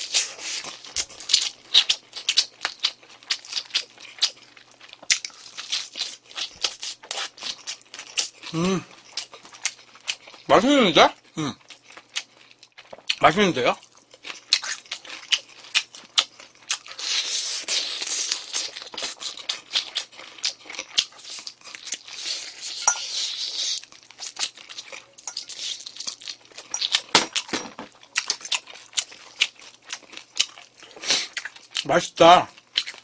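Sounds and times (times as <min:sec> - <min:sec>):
crunching fried chicken: 0:00.0 - 0:33.0.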